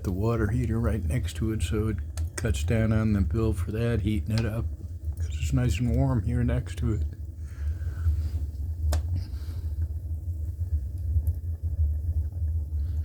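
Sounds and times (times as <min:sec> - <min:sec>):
furnace low rumble: 0:00.0 - 0:13.0.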